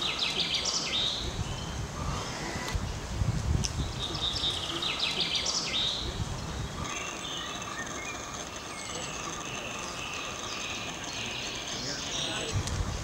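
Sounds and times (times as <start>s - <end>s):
birds chirping and singing: 0.0s - 2.7s, 3.7s - 12.6s
outdoor background noise: 0.0s - 13.0s.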